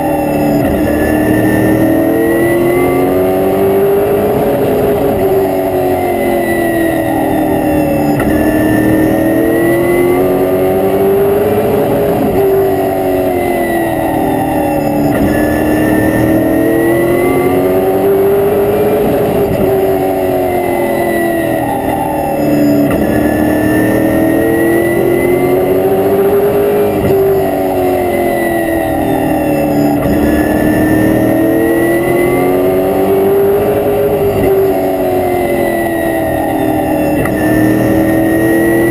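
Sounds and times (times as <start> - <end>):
race car engine from cockpit: 0.0 - 38.9.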